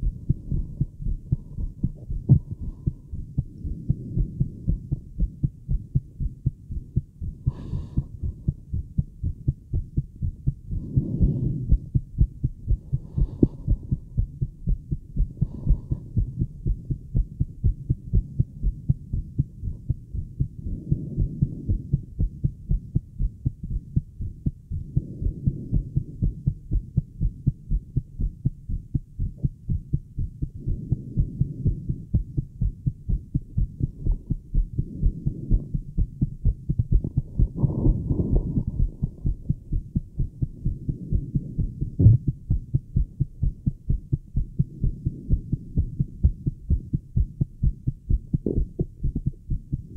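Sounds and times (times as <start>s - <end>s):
heartbeat thumps: 0.0s - 49.9s.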